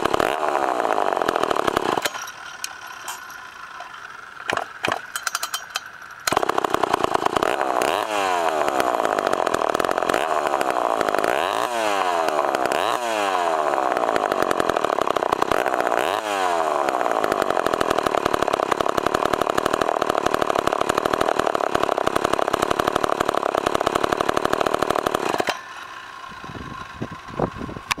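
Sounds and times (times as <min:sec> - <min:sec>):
chainsaw revving: 0:00.0 - 0:27.1.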